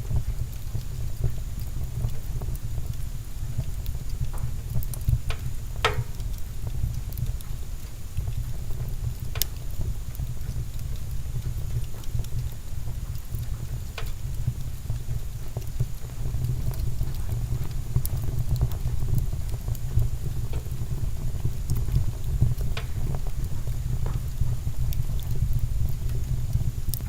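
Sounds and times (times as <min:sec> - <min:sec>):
logs crackling and popping: 0:00.0 - 0:27.0
wood fire rumbling: 0:00.0 - 0:27.0.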